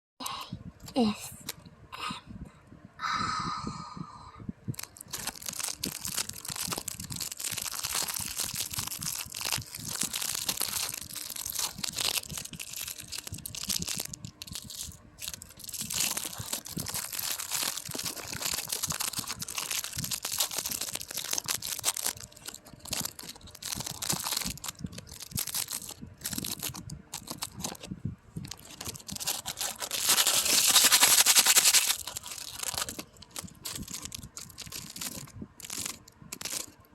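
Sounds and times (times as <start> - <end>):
crinkly material crumpling: 4.8 - 36.9.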